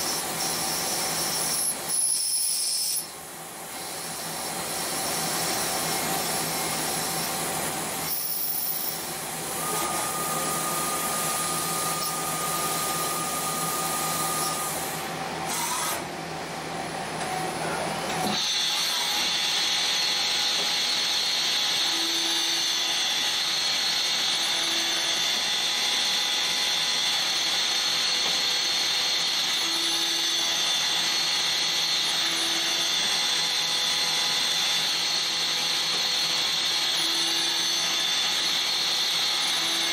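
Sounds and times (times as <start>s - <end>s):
lathe machining whir and hiss: 0.0s - 39.9s.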